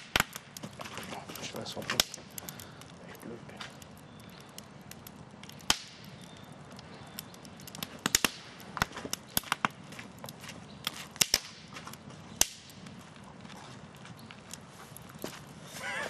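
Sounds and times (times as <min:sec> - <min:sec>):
sharp fire pops: 0:00.0 - 0:13.2
campfire crackling: 0:00.0 - 0:16.0.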